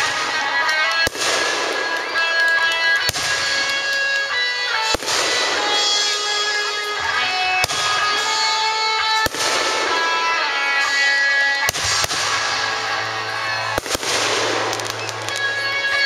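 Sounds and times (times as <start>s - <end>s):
sustained music notes: 0.0s - 16.0s.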